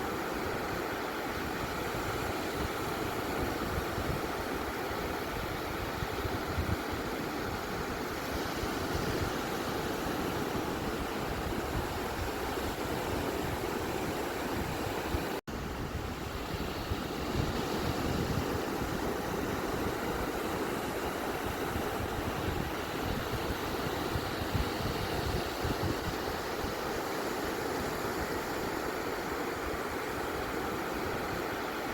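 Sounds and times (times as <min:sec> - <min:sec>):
ocean surf washing on beach: 0:00.0 - 0:31.9.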